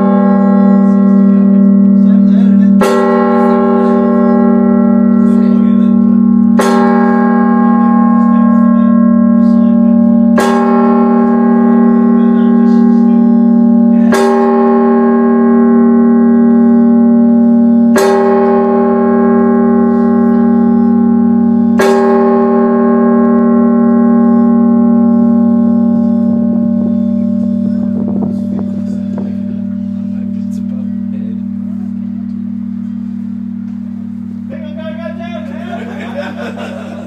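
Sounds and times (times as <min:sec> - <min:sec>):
large bell ringing: 0:00.0 - 0:37.0
steady deep hum: 0:00.0 - 0:37.0.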